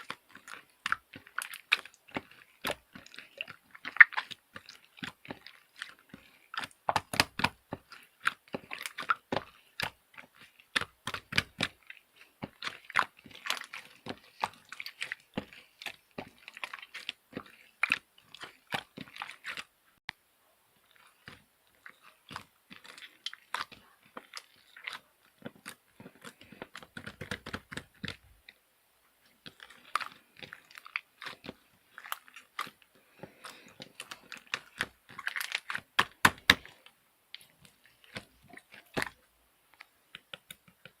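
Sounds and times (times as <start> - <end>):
person chewing crunchy food: 0.0 - 19.8, 20.8 - 28.6, 29.2 - 41.0.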